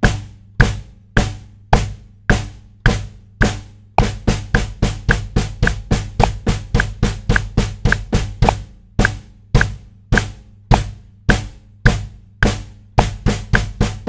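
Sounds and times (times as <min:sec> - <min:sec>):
double pedal bass drum: 0:00.0 - 0:14.0
snare drum strokes: 0:00.0 - 0:14.0.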